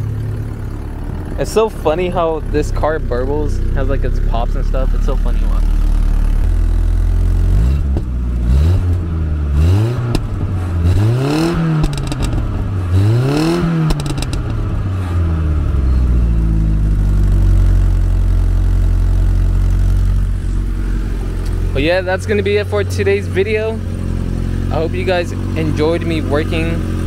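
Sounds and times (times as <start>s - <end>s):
car engine revving and popping: 0.0s - 27.0s.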